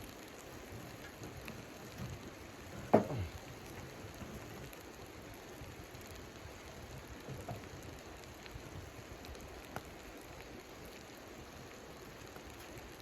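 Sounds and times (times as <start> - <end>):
rain-like patter: 0.0 - 13.0.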